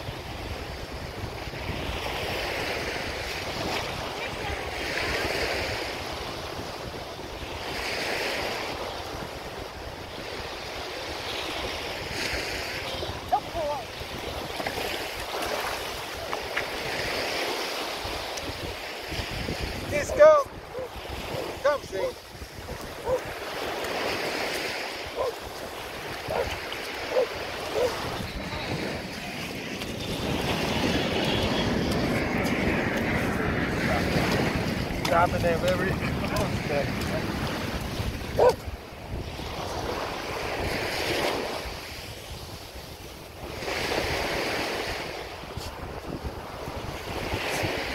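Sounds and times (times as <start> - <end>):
small ocean waves breaking: 0.0 - 47.9
surf washing: 0.0 - 47.9
wind rumbling on microphone: 0.0 - 47.9.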